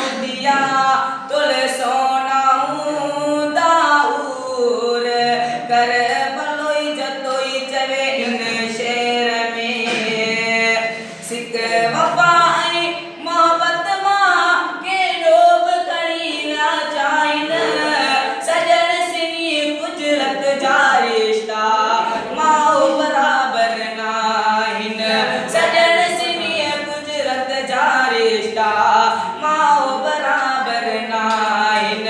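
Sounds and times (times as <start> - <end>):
person singing unaccompanied: 0.0 - 32.0.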